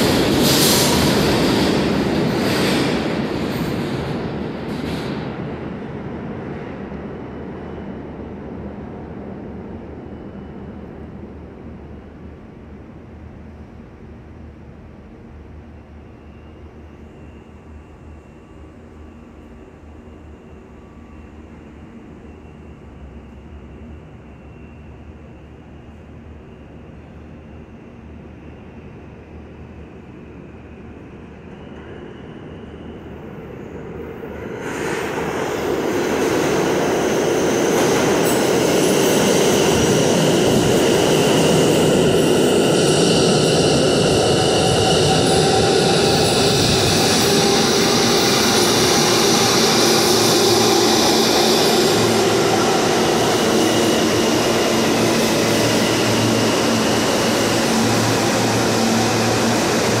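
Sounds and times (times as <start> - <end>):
subway train wheels rumbling: 0.0 - 60.0.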